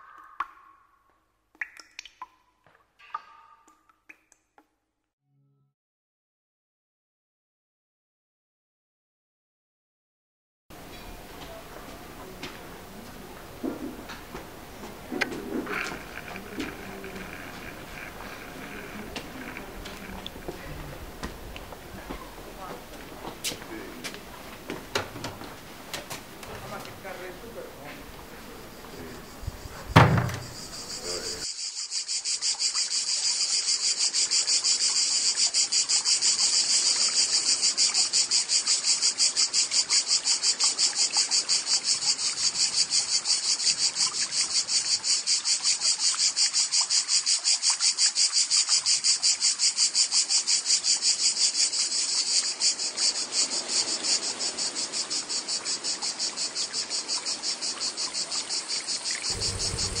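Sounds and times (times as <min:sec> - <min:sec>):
cicadas buzzing: 0:10.8 - 1:00.0.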